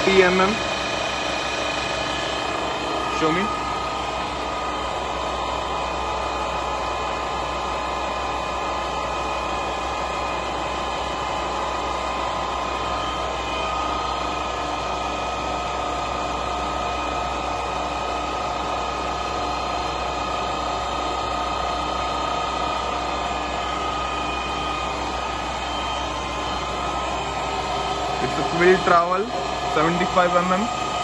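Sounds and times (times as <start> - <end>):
milling machine whining: 0.0 - 31.0.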